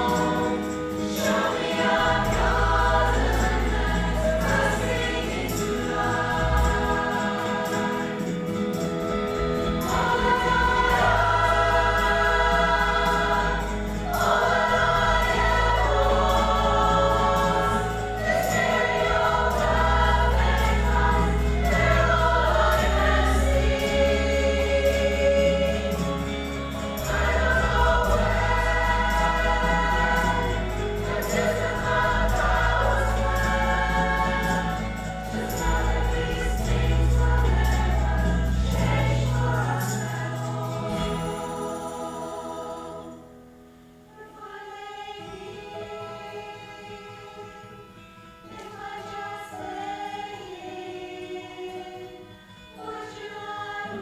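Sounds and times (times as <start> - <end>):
women's choir singing in harmony: 0.0 - 54.0.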